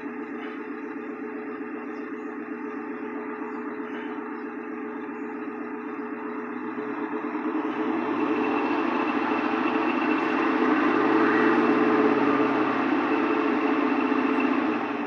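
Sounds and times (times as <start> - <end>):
truck engine running with rattle: 0.0 - 15.0.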